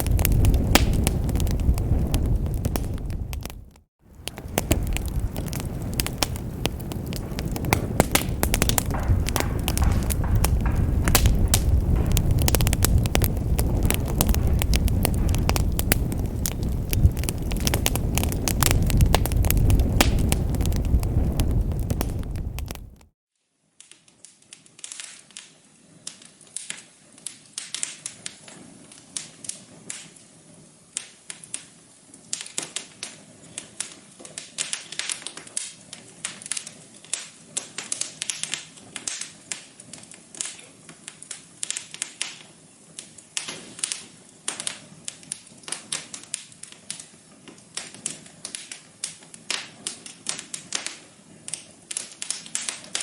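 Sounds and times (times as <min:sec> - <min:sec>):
wood fire crackling: 0:00.0 - 0:23.2, 0:23.8 - 0:53.0.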